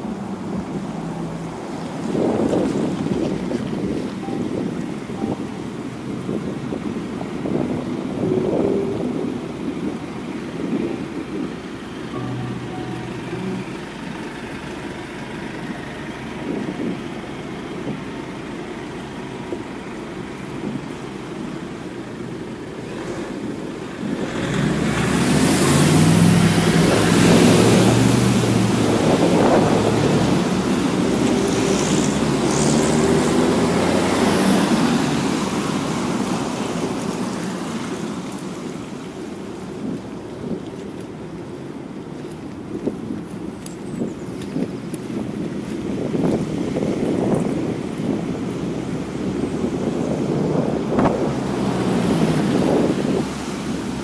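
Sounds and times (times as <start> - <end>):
truck engine pulling away: 0.0 - 40.6, 41.5 - 54.0
rumble of passing cars: 0.0 - 54.0.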